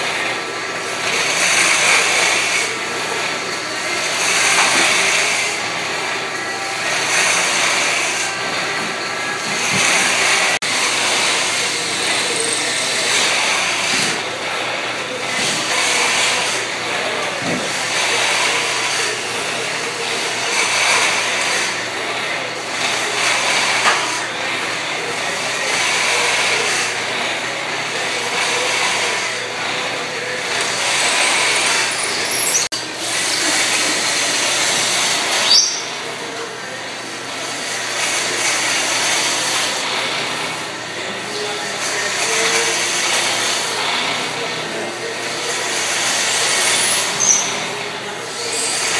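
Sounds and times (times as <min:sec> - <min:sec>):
lathe cutter hissing on wood: 0:00.0 - 0:48.9
lathe motor: 0:00.0 - 0:48.9.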